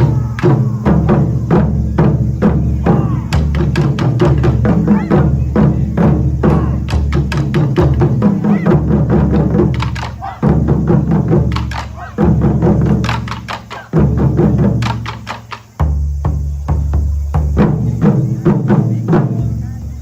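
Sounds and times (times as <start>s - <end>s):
taiko drums played hard: 0.0s - 19.6s.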